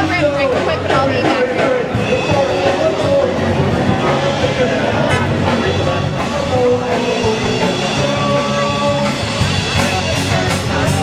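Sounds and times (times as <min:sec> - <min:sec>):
drums: 0:00.0 - 0:11.0
electric guitar: 0:00.0 - 0:11.0.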